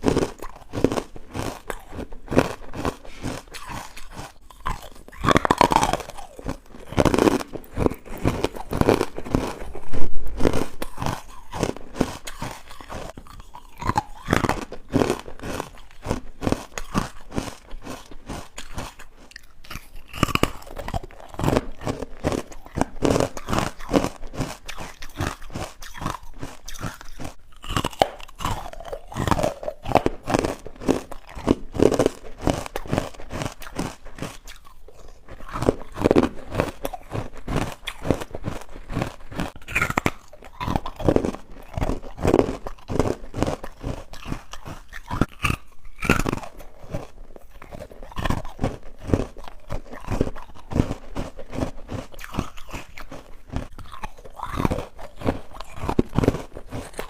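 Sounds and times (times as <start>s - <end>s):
person chewing crunchy ice: 0.0s - 57.0s
wet mouth sounds: 0.0s - 57.0s.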